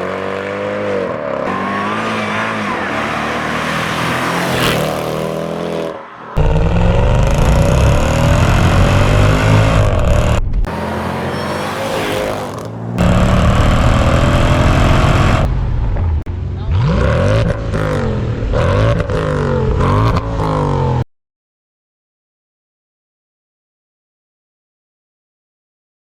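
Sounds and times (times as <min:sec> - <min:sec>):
car engine accelerating loudly: 0:00.0 - 0:21.0.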